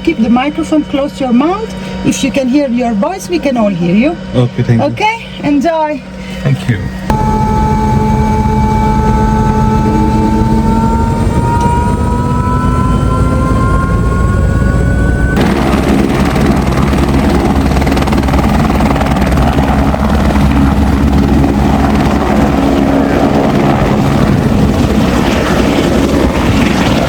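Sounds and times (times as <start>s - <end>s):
helicopter rotor and engine rumble: 0.0s - 27.0s
helicopter turbine whine: 0.0s - 27.0s.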